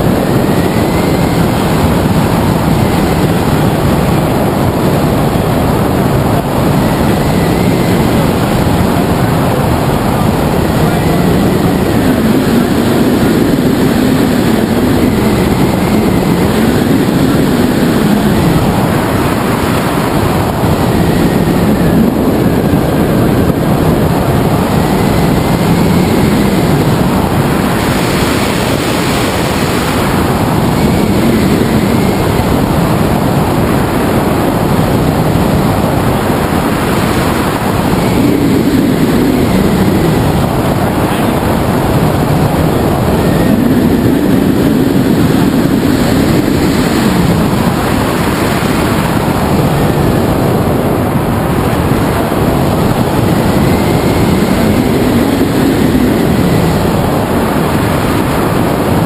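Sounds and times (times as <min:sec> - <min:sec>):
wind noise on microphone: 0:00.0 - 0:59.0.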